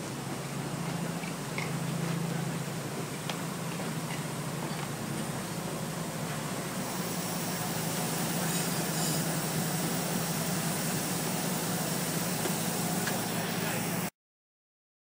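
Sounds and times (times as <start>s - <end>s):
heavy diesel machinery running: 0.0s - 14.1s.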